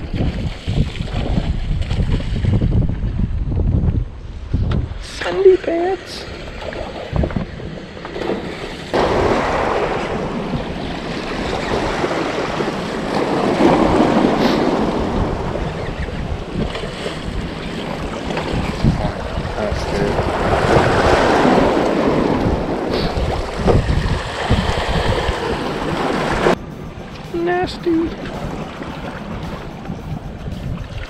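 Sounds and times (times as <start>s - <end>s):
wind buffeting microphone: 0.0s - 31.0s
waves washing against rocks: 5.4s - 31.0s.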